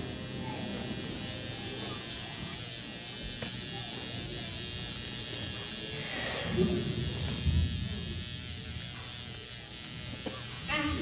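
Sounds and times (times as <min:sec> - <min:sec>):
electrical buzz: 0:00.0 - 0:11.0
low murmuring voices: 0:00.0 - 0:11.0.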